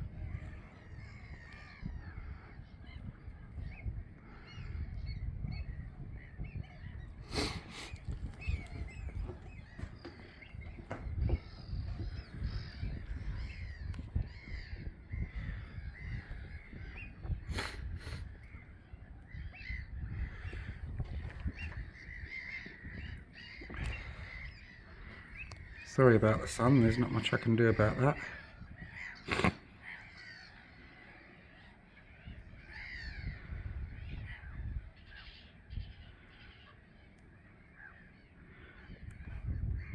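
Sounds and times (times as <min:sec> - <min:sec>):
gulls calling: 0:00.0 - 0:39.9.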